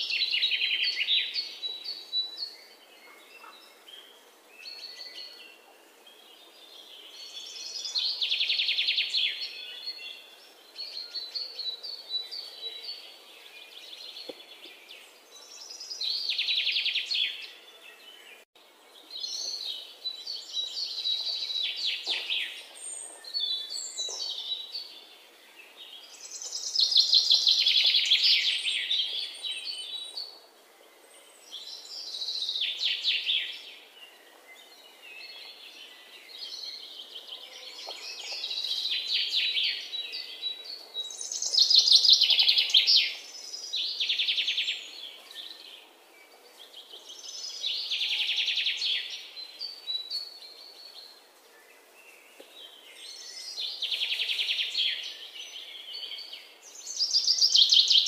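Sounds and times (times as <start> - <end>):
quiet bird chirps: 0.0 - 58.0.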